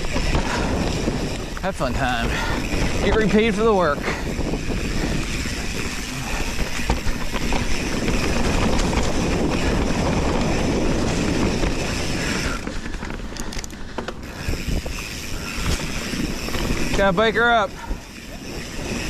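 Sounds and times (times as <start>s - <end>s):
bike rattles and clicks: 0.0s - 19.0s
bike tyres on dirt: 0.0s - 19.0s.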